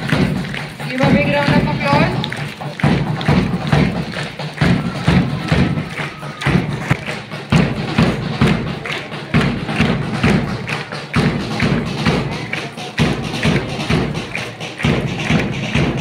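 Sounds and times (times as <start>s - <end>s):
faint voices: 0.0s - 16.0s
march music with heavy drum: 0.0s - 16.0s.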